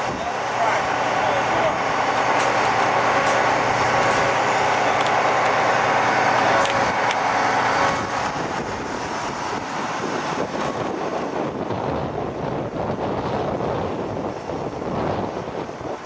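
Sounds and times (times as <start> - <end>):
truck engine running under load: 0.0 - 16.0.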